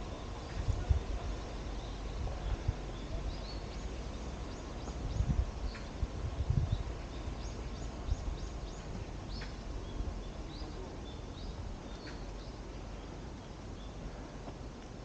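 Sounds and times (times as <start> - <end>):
background hiss: 0.0 - 15.0
small birds chirping: 0.0 - 15.0.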